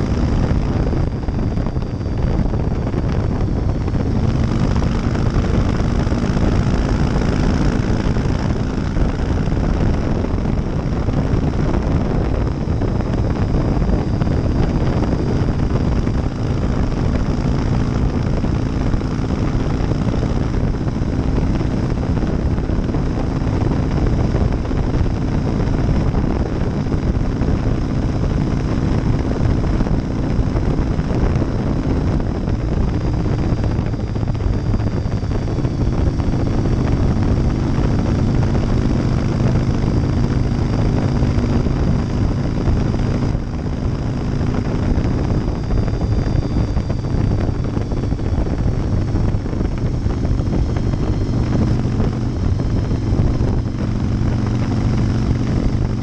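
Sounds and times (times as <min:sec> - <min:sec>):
motorcycle engine cruising: 0:00.0 - 0:56.0
wind rush: 0:00.0 - 0:56.0.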